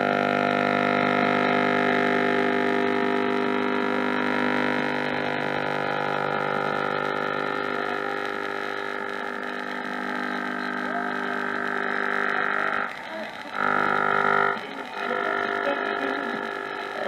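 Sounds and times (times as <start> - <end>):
radio whistle tones and hiss: 0.0 - 17.0
steady radio whistle: 0.0 - 17.0.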